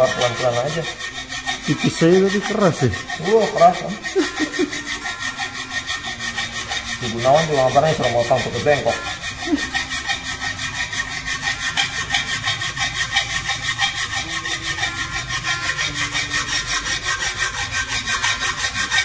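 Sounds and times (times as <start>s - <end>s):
hacksaw cutting metal tube: 0.0s - 19.0s.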